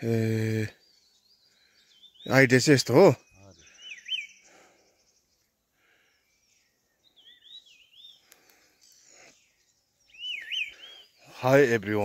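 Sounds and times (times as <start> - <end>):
faint bird song: 0.0 - 12.0.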